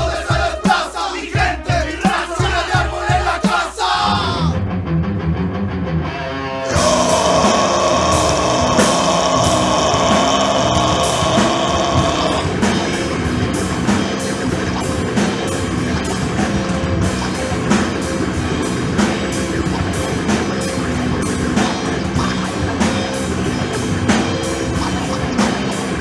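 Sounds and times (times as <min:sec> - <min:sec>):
drum kit beat: 0:00.0 - 0:04.5, 0:06.7 - 0:26.0
hardcore rock band playing: 0:00.0 - 0:26.0
electric guitar: 0:04.4 - 0:26.0.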